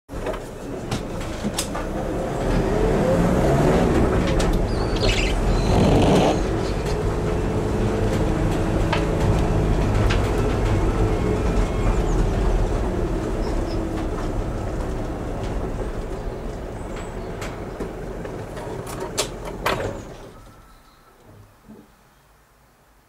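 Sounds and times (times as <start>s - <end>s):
vehicle engine and wheels hum: 0.1s - 21.5s.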